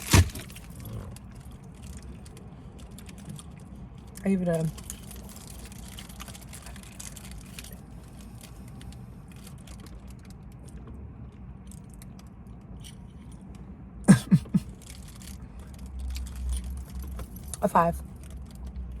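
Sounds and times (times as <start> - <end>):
small crinkling clicks: 0.0 - 13.6, 14.7 - 19.0
low steady hum: 0.0 - 19.0.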